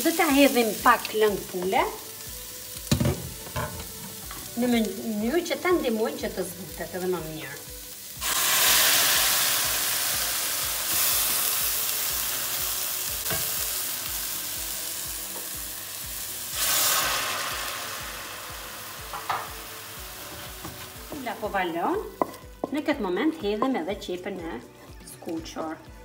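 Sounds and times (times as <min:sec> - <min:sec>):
onion sizzling in a pan: 0:00.0 - 0:25.0.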